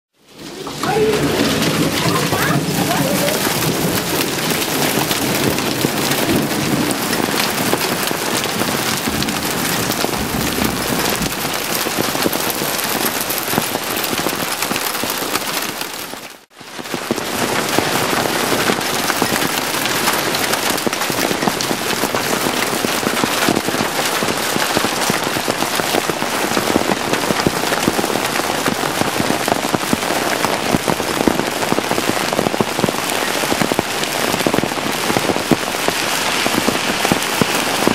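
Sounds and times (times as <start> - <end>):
hail and heavy rain clattering: 0.2 - 37.9.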